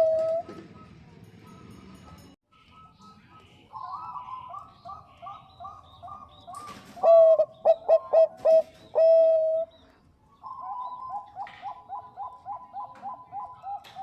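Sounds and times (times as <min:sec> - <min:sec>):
doves cooing: 0:00.0 - 0:01.0, 0:03.7 - 0:14.0.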